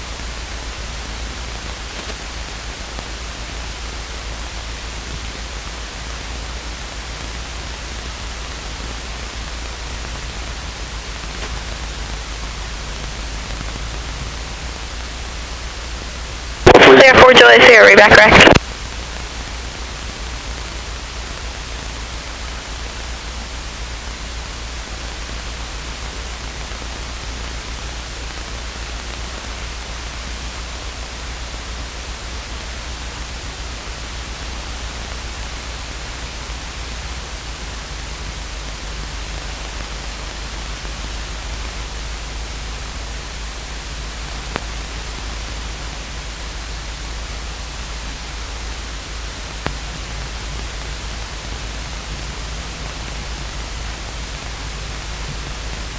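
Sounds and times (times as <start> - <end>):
radio feed hiss: 0.0 - 55.9.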